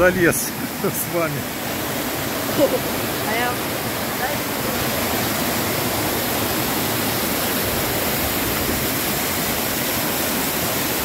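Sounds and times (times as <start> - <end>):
waterfall rushing onto rocks: 0.0 - 11.0.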